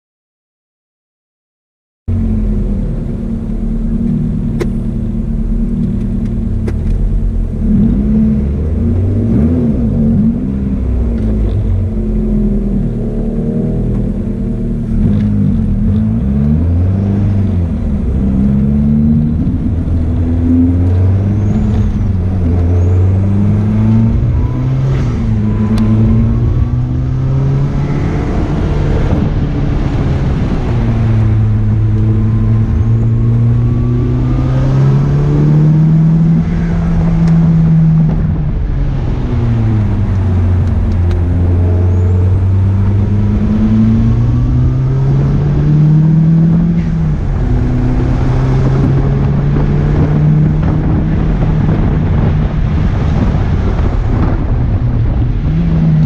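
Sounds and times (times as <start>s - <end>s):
car engine revving: 2.1s - 56.0s.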